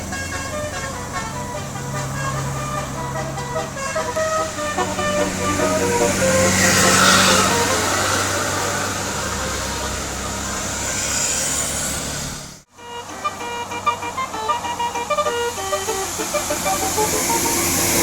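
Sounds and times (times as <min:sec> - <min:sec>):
multi-tone bus horn tune: 0:00.0 - 0:12.0, 0:12.6 - 0:18.0
bus engine: 0:00.0 - 0:18.0
road noise: 0:00.0 - 0:18.0.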